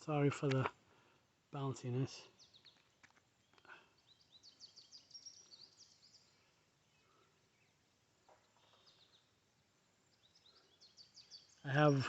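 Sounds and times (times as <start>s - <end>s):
faint songbird chirping: 0.0s - 12.0s.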